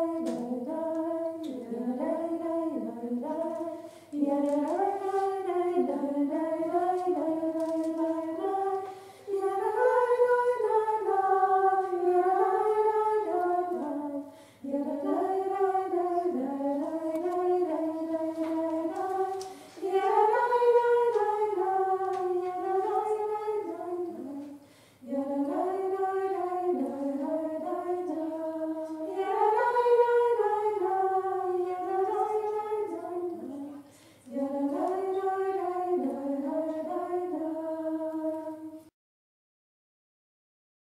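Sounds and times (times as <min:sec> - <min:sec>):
woman singing unaccompanied: 0:00.0 - 0:38.8.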